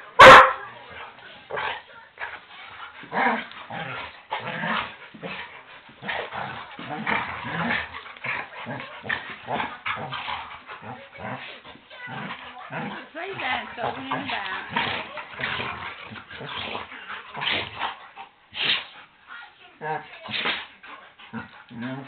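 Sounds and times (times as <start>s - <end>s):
dogs growling: 0.0s - 19.0s, 19.8s - 22.0s.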